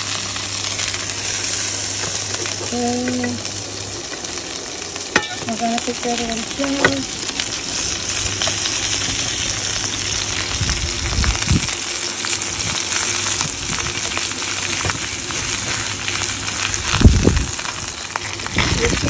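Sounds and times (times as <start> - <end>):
fish sizzling in a skillet: 0.0 - 19.0.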